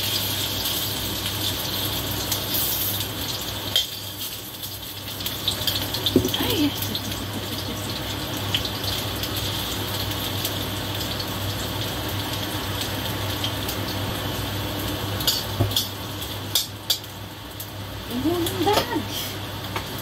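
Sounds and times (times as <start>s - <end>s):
potatoes sizzling in oil: 0.0s - 20.0s.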